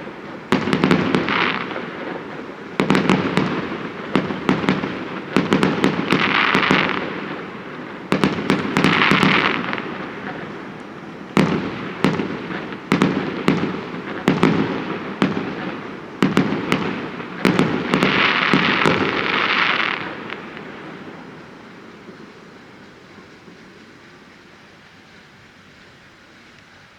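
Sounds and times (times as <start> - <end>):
fireworks bursting: 0.0 - 26.9
fireworks hissing crackle: 0.0 - 26.9.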